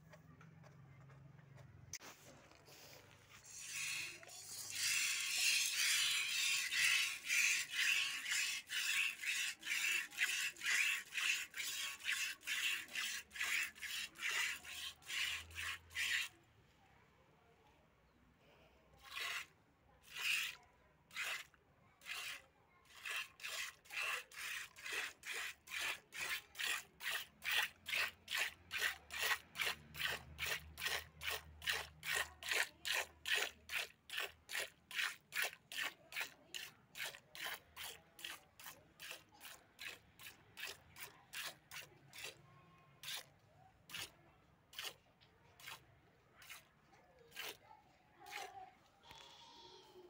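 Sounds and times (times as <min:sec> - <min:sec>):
milk squirting into steel pail: 0:02.0 - 0:16.4, 0:19.0 - 0:42.4, 0:43.0 - 0:49.2.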